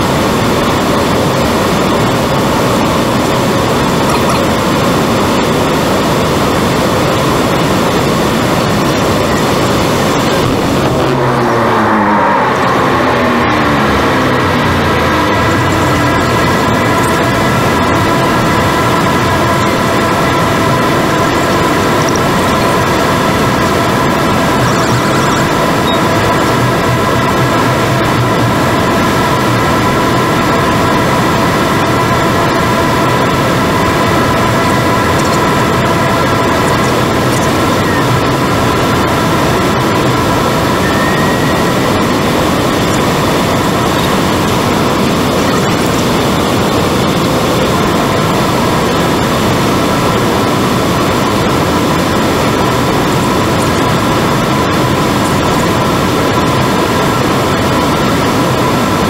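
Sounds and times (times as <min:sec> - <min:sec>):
turboprop engines droning: 0:00.0 - 0:59.0.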